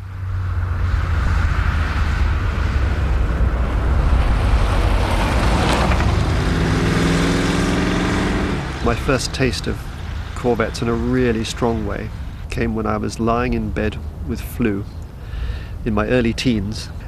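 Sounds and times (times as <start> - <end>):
car engine rumble driving by: 0.0 - 17.0
tyre and wind noise: 0.0 - 17.0.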